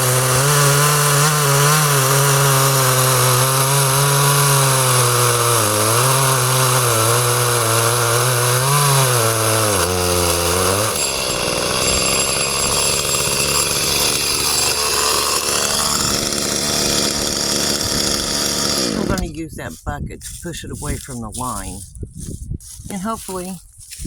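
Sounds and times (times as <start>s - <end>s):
chainsaw cutting: 0.0s - 21.8s.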